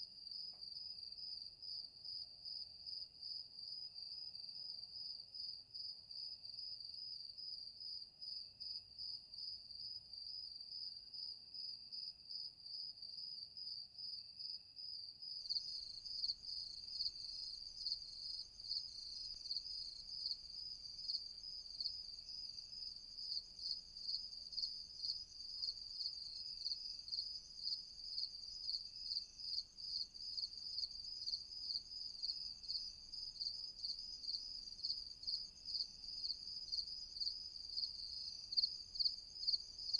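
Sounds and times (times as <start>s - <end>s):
single cricket chirps: 0.0s - 39.9s
higher-pitched cricket chorus: 0.2s - 39.9s.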